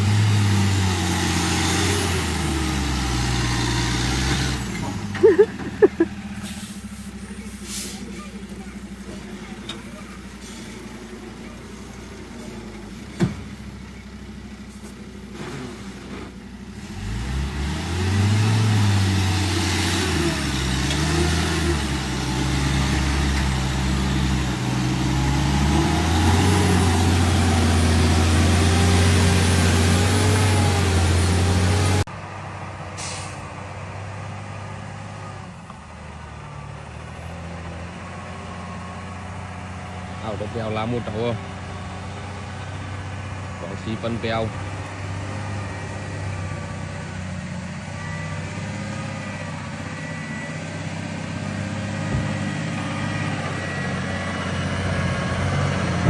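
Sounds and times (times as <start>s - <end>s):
truck diesel engine revving: 0.0s - 56.0s.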